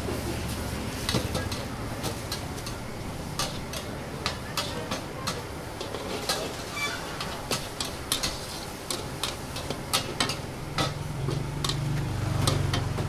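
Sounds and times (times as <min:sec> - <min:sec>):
metal spatula scraping a wok: 0:01.0 - 0:12.9.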